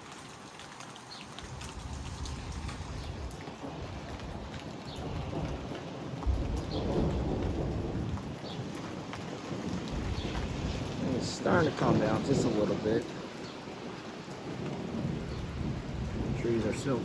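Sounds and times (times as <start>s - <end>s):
rain: 0.0s - 17.0s
raindrops ticking: 0.0s - 17.0s
low thunder rumble: 1.3s - 13.4s, 14.4s - 17.0s
gusty wind: 1.3s - 17.0s.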